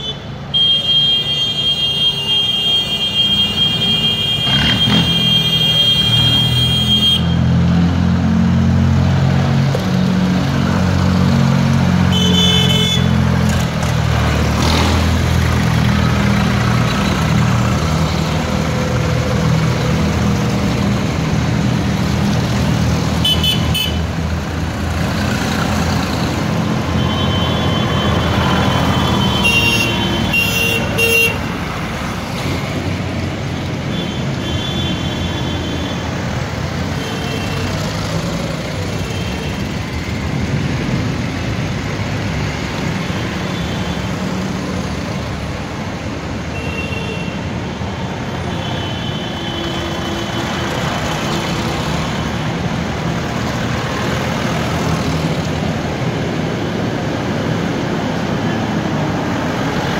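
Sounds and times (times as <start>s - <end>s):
tractor engines passing: 2.8s - 46.5s, 49.7s - 59.9s.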